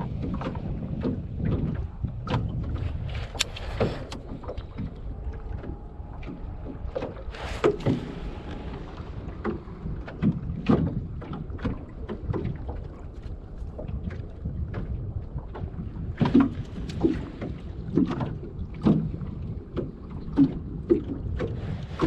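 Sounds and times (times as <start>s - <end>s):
steady low rumble: 0.0s - 21.9s
water slapping against boat hull: 0.0s - 22.0s.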